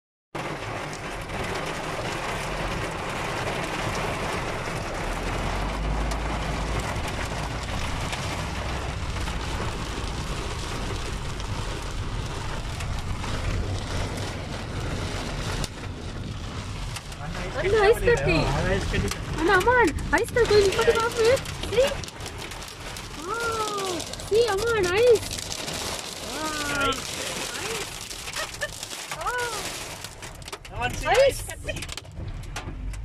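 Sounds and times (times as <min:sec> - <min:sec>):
car rumble: 0:00.4 - 0:33.0
hail and rain on a car: 0:00.4 - 0:33.0.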